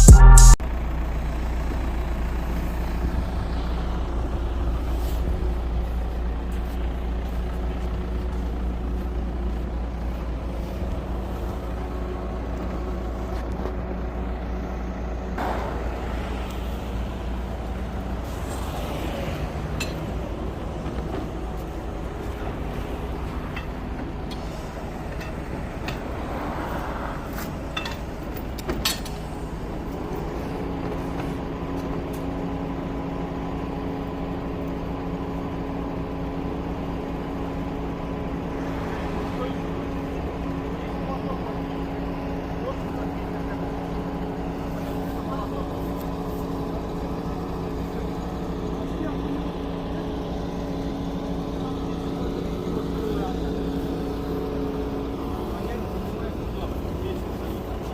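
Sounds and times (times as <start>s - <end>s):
crane engine running: 0.0s - 57.9s.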